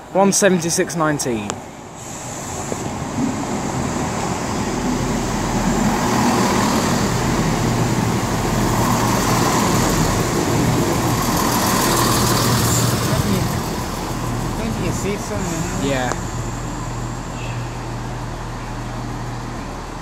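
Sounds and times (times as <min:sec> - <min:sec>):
diesel train engine and wheels: 0:00.0 - 0:20.0.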